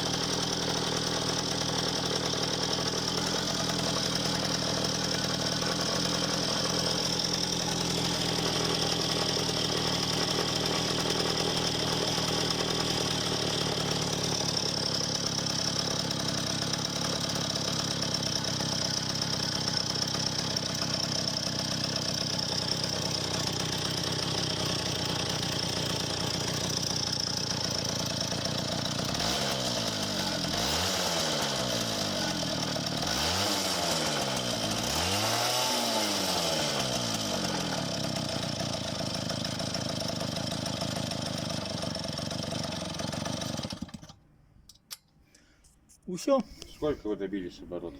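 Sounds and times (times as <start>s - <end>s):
two-stroke engine idling and revving: 0.0s - 44.2s.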